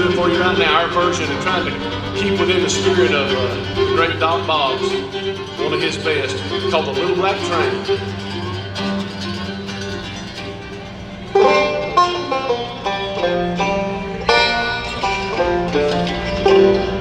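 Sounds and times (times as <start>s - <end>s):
banjo picking: 0.0s - 17.0s
bluegrass string band playing: 0.0s - 17.0s.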